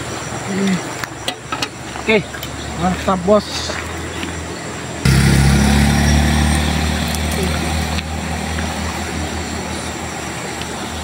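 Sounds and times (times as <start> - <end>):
vehicle engine rumble: 1.7 - 11.0.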